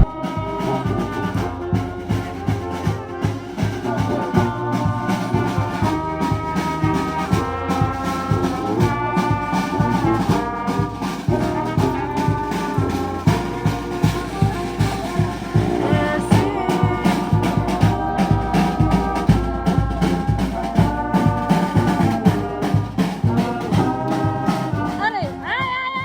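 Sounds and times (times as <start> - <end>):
background music with brass notes: 0.0 - 26.0.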